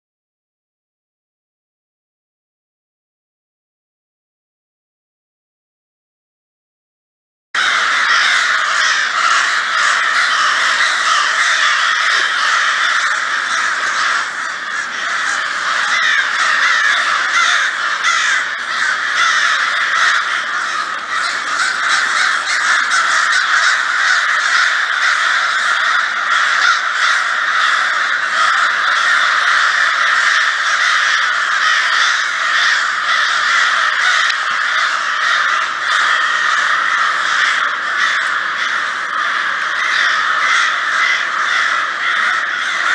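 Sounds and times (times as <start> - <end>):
crows cawing: 7.6 - 42.9.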